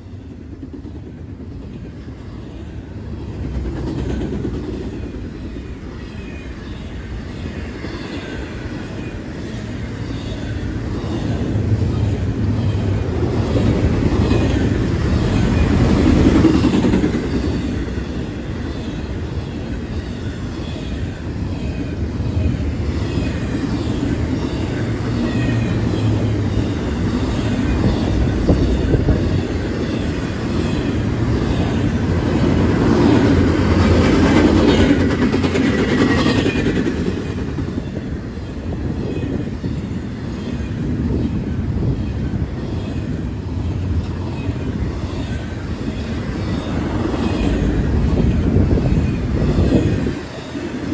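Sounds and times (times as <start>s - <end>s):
freight train wheels rumbling: 0.0s - 50.9s.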